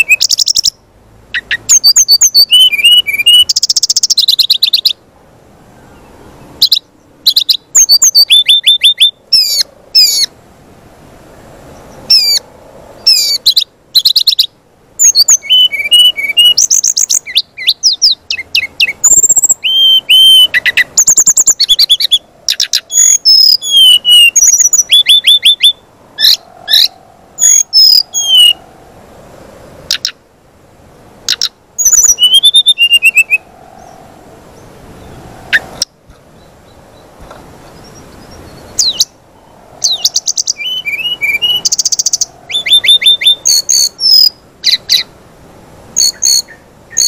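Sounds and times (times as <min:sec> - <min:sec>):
bird singing whistled trills: 0:00.0 - 0:00.8, 0:01.4 - 0:05.0, 0:05.9 - 0:10.3, 0:13.1 - 0:28.6, 0:31.3 - 0:45.1, 0:46.0 - 0:47.0.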